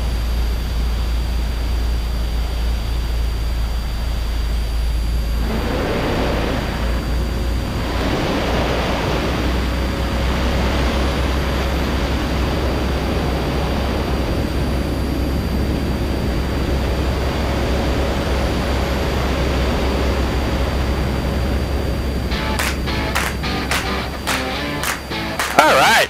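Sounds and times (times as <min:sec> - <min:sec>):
airplane engine idling: 0:04.9 - 0:26.0.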